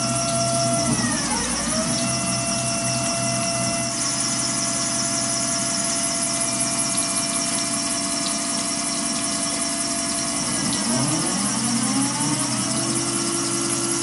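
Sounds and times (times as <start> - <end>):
coolant hiss: 0.0 - 14.0
milling machine whine: 0.0 - 14.0.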